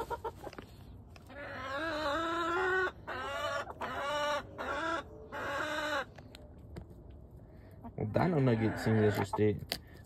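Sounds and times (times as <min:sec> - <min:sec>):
hens calling: 0:00.0 - 0:06.7, 0:07.4 - 0:09.6.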